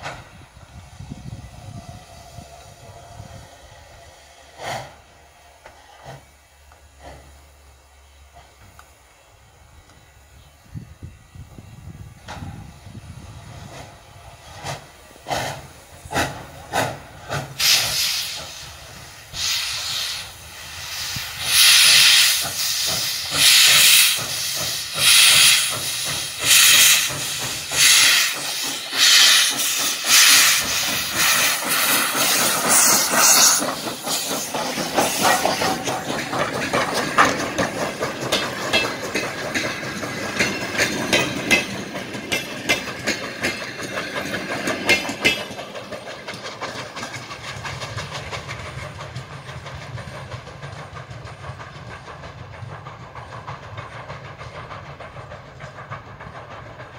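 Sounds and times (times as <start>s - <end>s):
hissing steam blasts: 0.0s - 56.9s
steam locomotive exhaust chuffs: 0.0s - 56.9s
train wheels rattling on rails: 0.0s - 56.9s.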